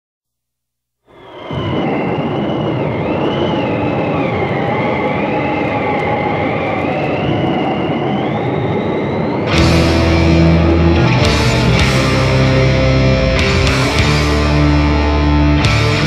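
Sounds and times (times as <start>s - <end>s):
high wavering whistle: 1.1s - 14.6s
steady rushing noise: 1.1s - 16.0s.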